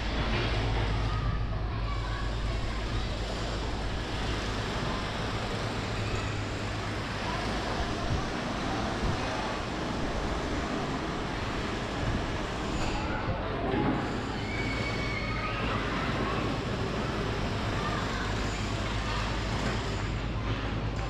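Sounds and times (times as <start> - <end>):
city background noise: 0.0 - 21.0.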